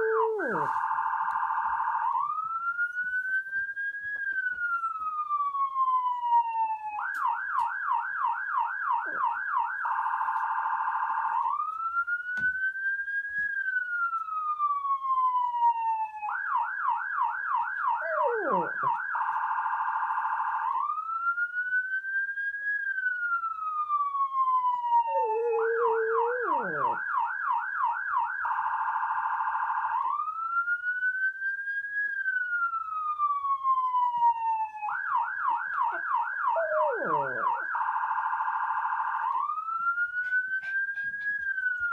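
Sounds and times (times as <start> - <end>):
electronic police siren: 0.0 - 41.9.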